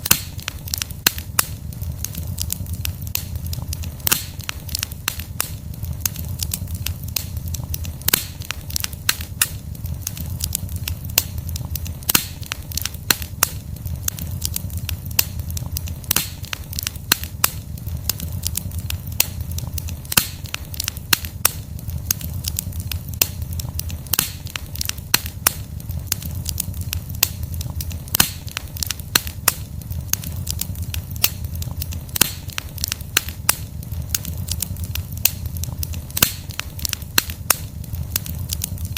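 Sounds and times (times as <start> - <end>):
flames rumbling: 0.0 - 38.9
log fire crackling: 0.0 - 38.9.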